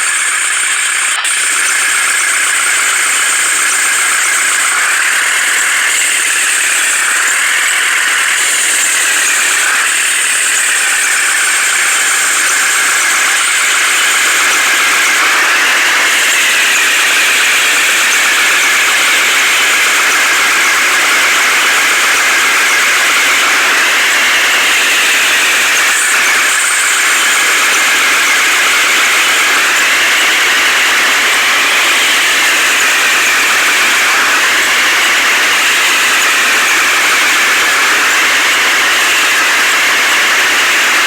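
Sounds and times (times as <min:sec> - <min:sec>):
heavy machine engine running: 0:00.0 - 0:41.0
whine rising and falling: 0:00.0 - 0:41.0.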